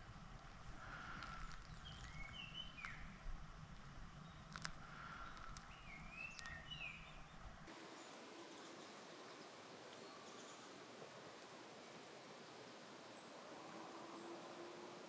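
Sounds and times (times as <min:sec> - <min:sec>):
small birds chirping: 0:00.8 - 0:03.2, 0:04.1 - 0:15.0.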